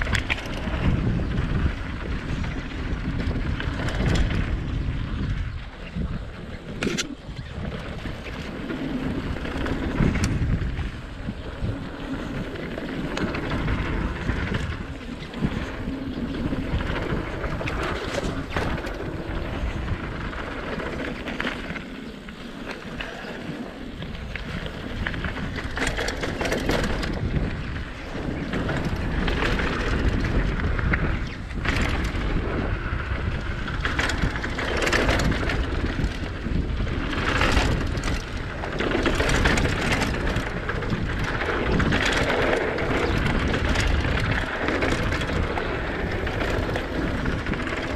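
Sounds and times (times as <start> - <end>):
bike tyre rumble: 0.0 - 47.9
wind noise on microphone: 0.0 - 47.9.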